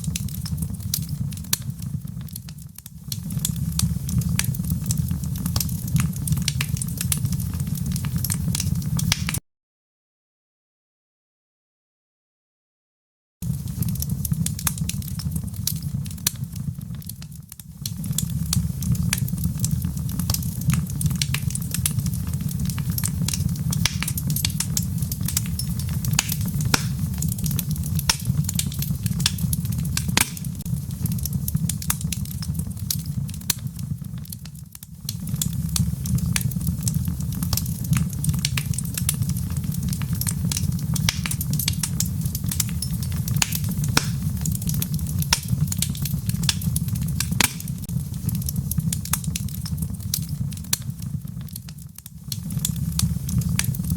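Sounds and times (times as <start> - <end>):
fire crackling and popping: 0.0 - 9.4, 13.4 - 53.9
fire flames rumbling: 0.0 - 9.4, 13.4 - 53.9.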